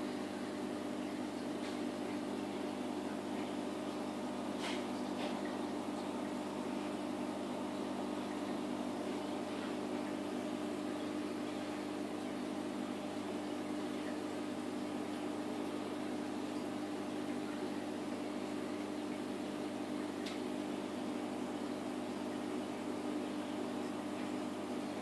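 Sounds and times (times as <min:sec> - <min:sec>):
aquarium equipment humming underwater: 0:00.0 - 0:25.0.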